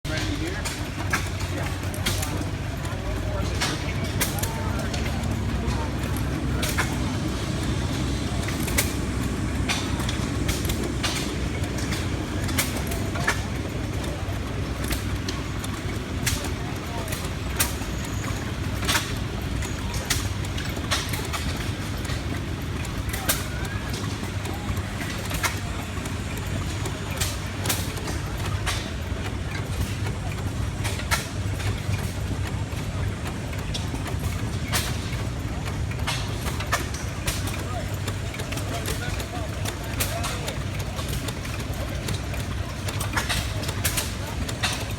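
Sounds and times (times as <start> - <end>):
hot air engine rumbling: 0.0 - 44.9
sharp engine clicks: 0.1 - 44.9.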